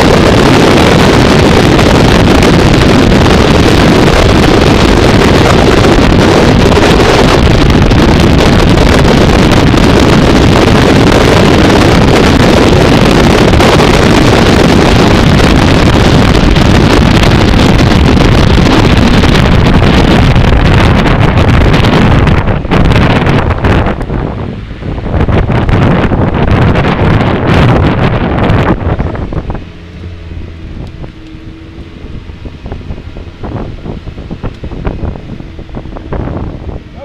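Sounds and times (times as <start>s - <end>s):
race car engine: 0.0s - 37.0s
wind buffeting microphone: 0.0s - 37.0s.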